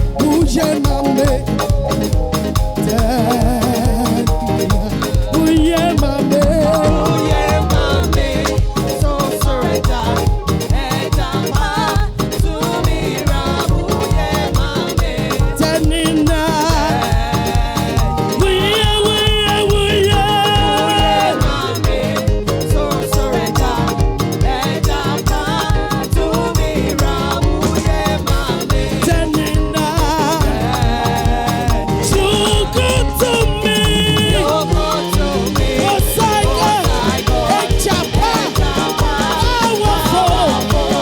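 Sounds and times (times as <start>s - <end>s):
person singing: 0.0s - 2.2s, 2.8s - 41.0s
upbeat dance praise music: 0.0s - 41.0s.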